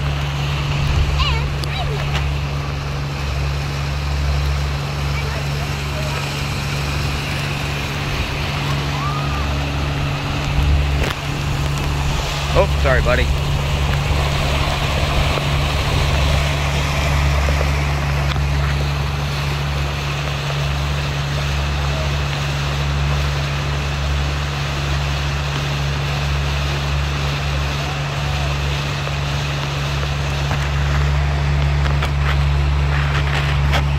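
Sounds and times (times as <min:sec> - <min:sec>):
motorboat engine droning: 0:00.0 - 0:33.9
water rushing along hull: 0:00.0 - 0:33.9.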